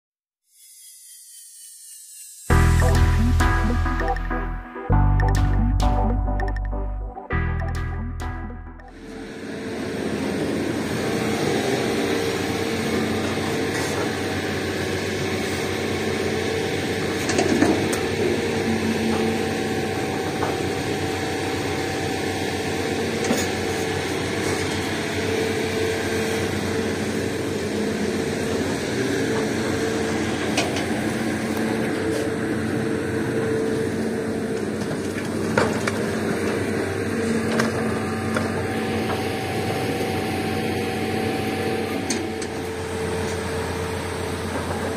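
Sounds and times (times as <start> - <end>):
excavator engine droning: 2.5 - 44.9.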